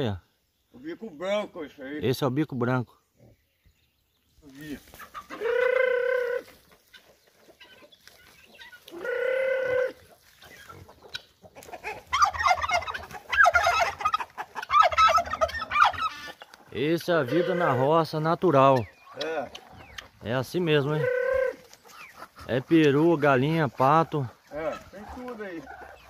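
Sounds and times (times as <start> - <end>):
chickens and turkeys calling: 0.0 - 26.0.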